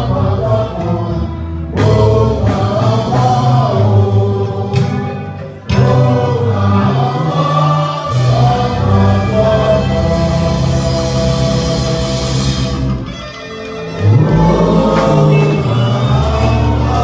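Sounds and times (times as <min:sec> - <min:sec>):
gospel choir singing: 0:00.0 - 0:17.0
musical accompaniment: 0:00.0 - 0:17.0.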